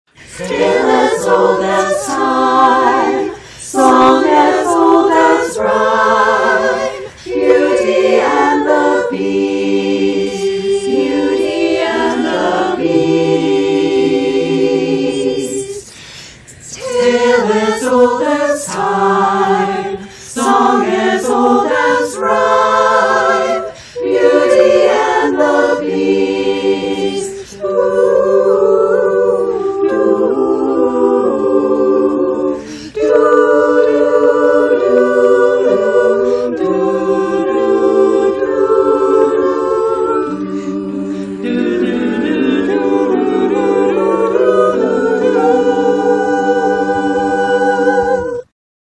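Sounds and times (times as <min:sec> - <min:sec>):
women's choir singing a cappella: 0:00.1 - 0:48.5.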